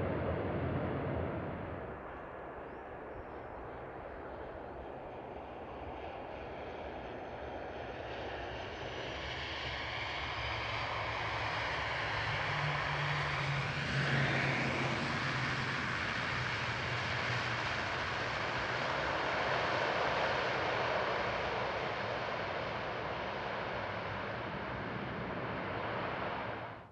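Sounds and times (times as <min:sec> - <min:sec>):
turboprop airliner landing: 0:00.0 - 0:26.9.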